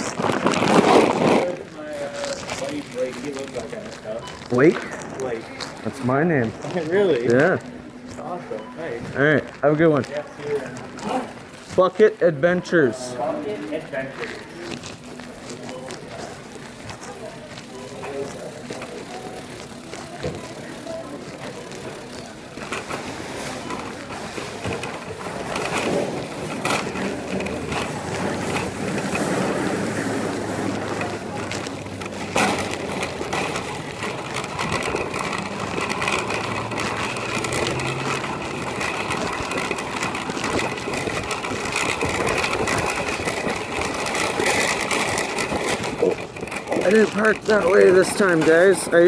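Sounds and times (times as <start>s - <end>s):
shopping cart rattling: 0.0s - 49.0s.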